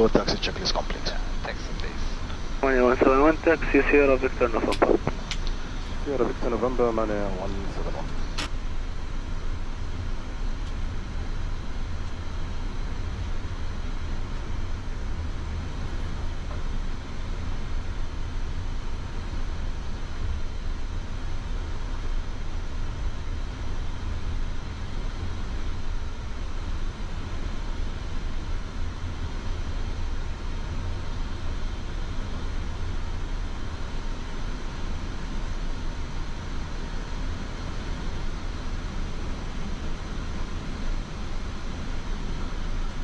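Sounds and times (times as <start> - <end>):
aircraft engines idling: 0.0 - 43.0.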